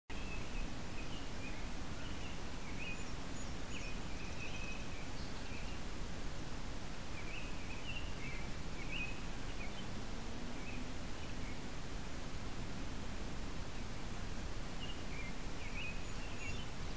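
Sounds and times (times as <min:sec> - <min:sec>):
small birds chirping: 0:00.1 - 0:06.0, 0:06.9 - 0:16.9.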